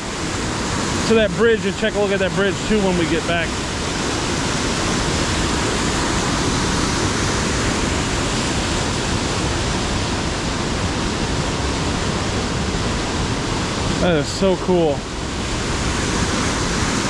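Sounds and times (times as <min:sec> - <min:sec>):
water rushing over rock: 0:00.0 - 0:17.0.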